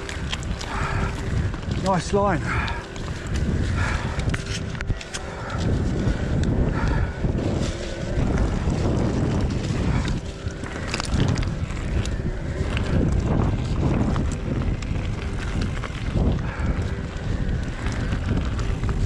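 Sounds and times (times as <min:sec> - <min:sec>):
bike knocking and rattling: 0:00.0 - 0:19.0
tyres rolling over rocky ground: 0:00.0 - 0:19.0
wind rushing over microphone: 0:00.0 - 0:19.0.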